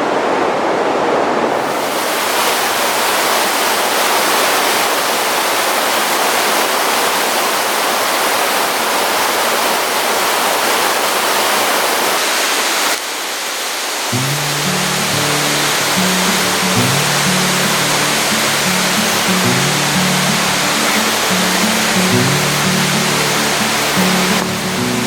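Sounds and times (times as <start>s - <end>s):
waterfall rushing: 0.8s - 25.0s.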